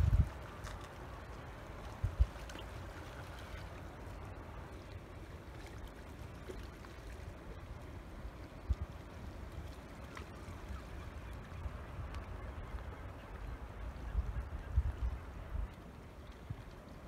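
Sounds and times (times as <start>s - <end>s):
wind on microphone: 0.0s - 4.5s, 7.3s - 17.0s.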